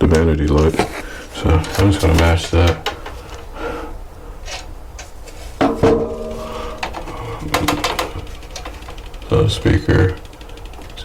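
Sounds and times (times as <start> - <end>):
hands handling fan parts: 0.0 - 11.0.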